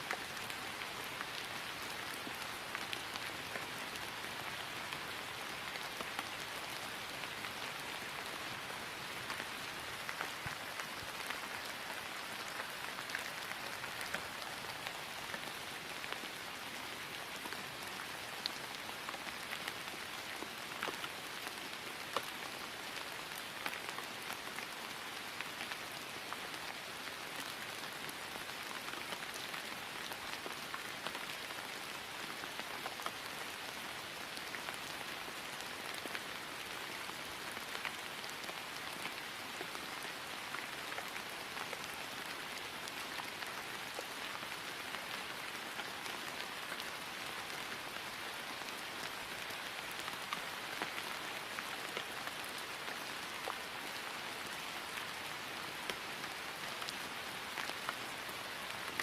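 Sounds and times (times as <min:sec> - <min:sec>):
rain falling on grass: 0:00.0 - 0:59.0.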